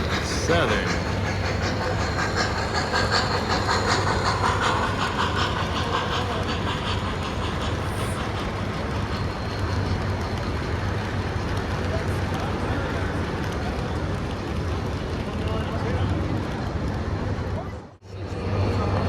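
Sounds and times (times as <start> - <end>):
train wheels clicking over rails: 0.0 - 15.5.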